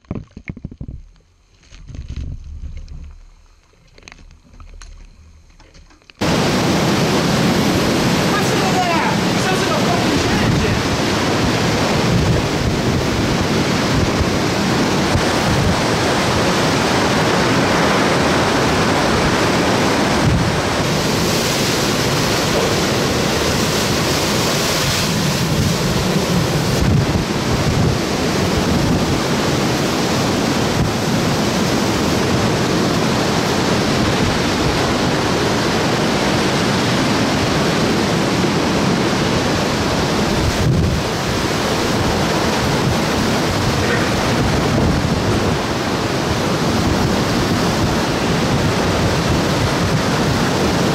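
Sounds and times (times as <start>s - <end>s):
wind buffeting microphone: 0.0s - 5.5s, 6.2s - 50.9s
heavy wind-driven rain: 0.0s - 50.9s
hurricane wind: 0.0s - 50.9s.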